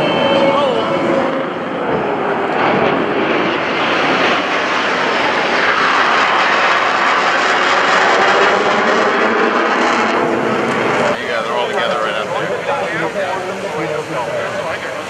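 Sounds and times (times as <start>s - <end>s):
jet flying overhead: 0.0s - 15.0s.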